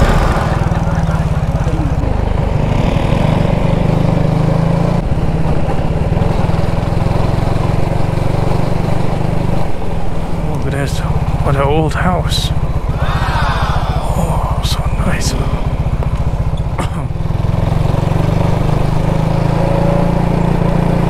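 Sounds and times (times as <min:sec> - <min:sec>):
motorcycle engine running: 0:00.0 - 0:13.0, 0:15.4 - 0:21.0.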